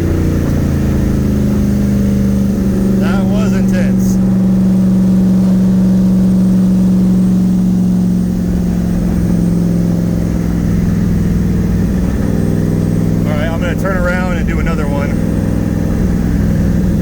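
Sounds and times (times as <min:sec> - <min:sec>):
car engine droning at cruise: 0:00.0 - 0:17.0.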